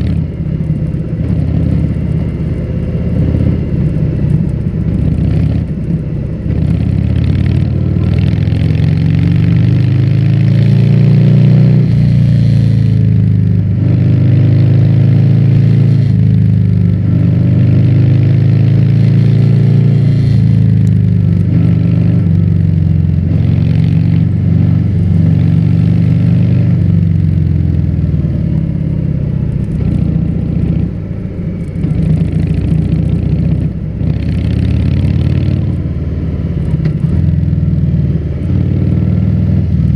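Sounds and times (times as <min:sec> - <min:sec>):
loud motorcycle engine: 0:00.0 - 0:39.9.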